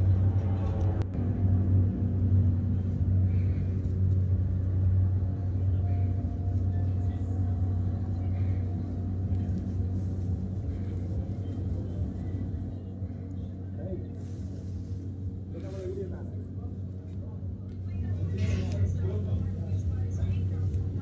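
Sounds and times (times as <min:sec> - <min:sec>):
turboprop plane engine and propeller drone: 0:00.0 - 0:21.0.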